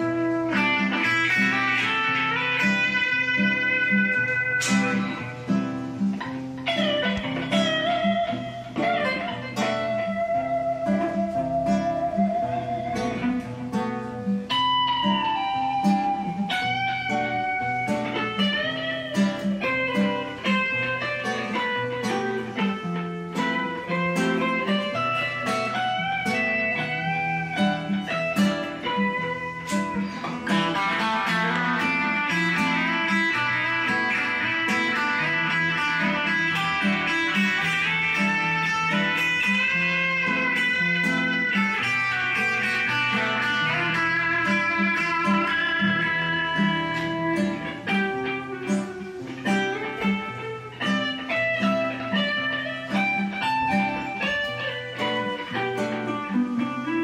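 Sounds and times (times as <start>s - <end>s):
electric guitar: 0.0s - 57.0s
nylon-string guitar chords: 0.0s - 57.0s.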